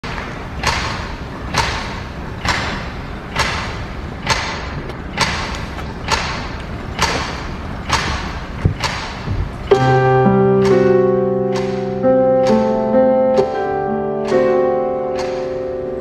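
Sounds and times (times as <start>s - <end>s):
echoing sharp knocks: 0.0s - 16.0s.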